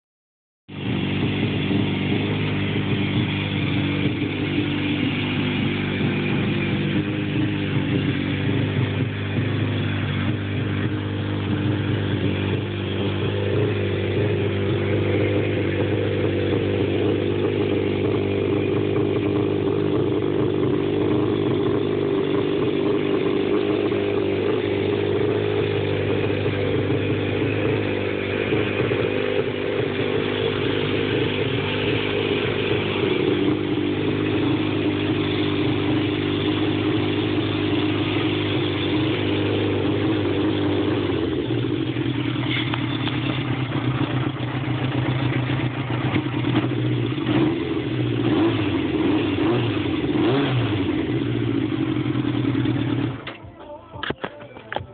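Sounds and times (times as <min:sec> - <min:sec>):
motorcycle engine idling: 0:00.7 - 0:54.9.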